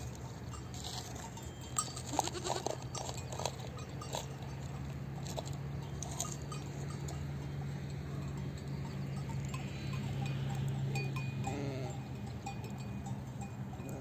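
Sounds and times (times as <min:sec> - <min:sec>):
livestock bells clinking: 0:00.0 - 0:14.0.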